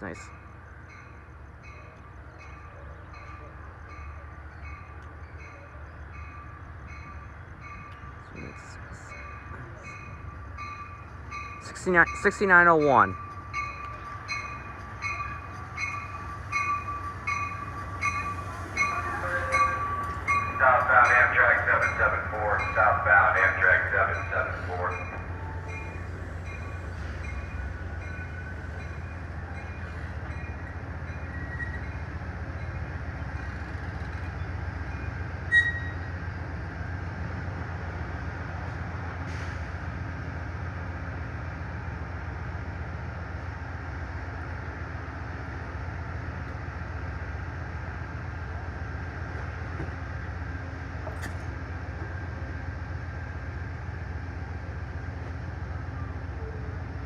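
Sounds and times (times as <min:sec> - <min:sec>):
diesel locomotive droning: 0:00.0 - 0:57.0.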